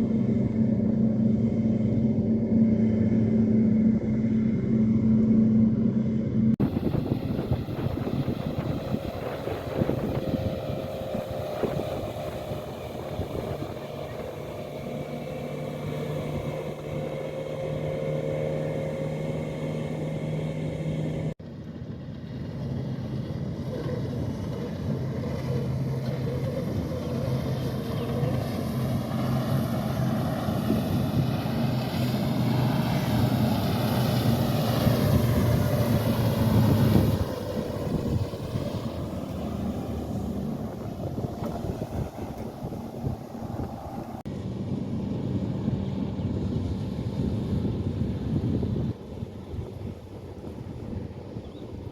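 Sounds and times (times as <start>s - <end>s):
motorboat engines passing: 0.0s - 51.9s
wind buffeting microphone: 0.0s - 51.9s.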